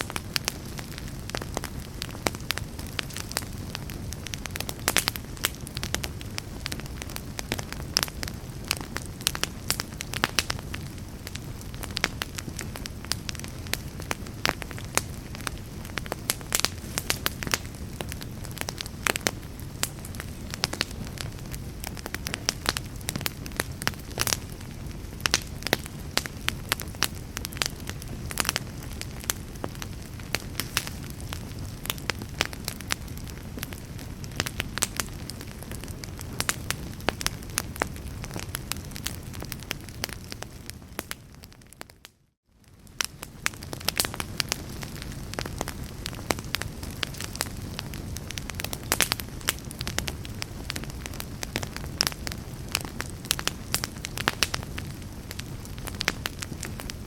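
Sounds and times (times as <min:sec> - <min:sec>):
rush of flames: 0:00.0 - 0:41.8, 0:42.6 - 0:57.0
fire crackling and popping: 0:00.0 - 0:57.0.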